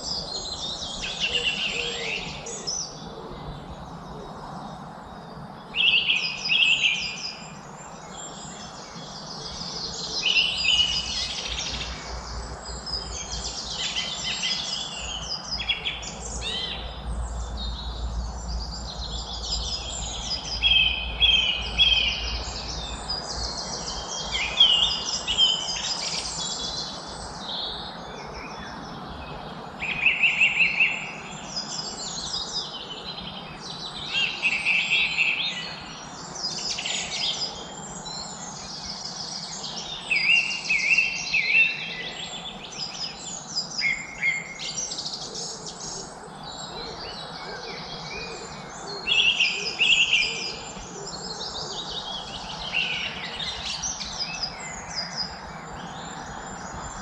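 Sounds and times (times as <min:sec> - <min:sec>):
songbirds chirping and singing: 0:00.0 - 0:57.0.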